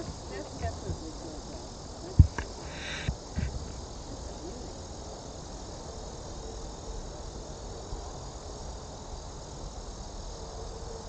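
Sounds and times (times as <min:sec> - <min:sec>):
insects hissing: 0:00.0 - 0:11.0.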